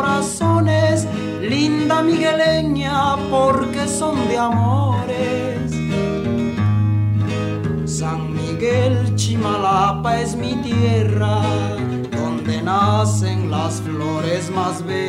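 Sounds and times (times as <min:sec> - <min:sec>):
man singing: 0:00.0 - 0:06.0, 0:07.8 - 0:15.0
acoustic guitar: 0:00.0 - 0:15.0.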